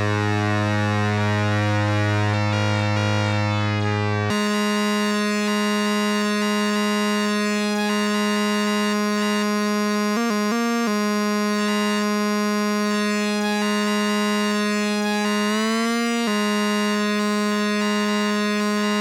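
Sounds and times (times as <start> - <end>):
buzzy synthesizer note: 0.0 - 19.0.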